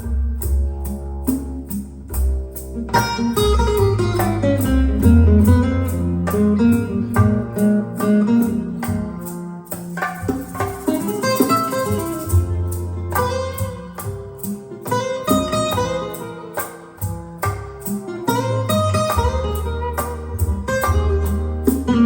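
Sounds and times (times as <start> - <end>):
jazz guitar over walking bass: 0.0 - 22.0.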